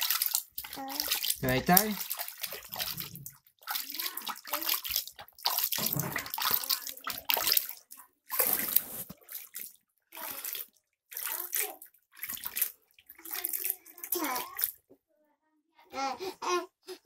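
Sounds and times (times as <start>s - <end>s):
water splashing in baby bath: 0.0s - 14.9s.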